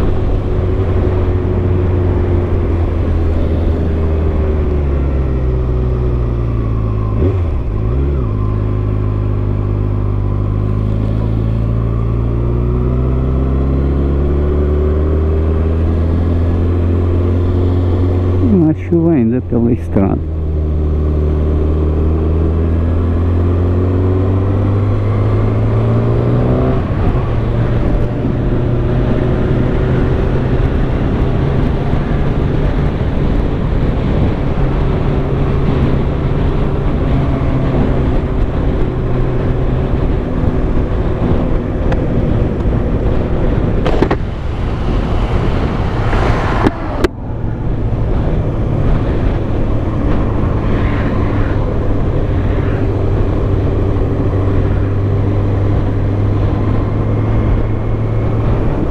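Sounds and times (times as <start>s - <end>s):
motorcycle engine revving: 0.0s - 18.8s, 19.9s - 58.9s
wind and road noise: 0.0s - 58.9s.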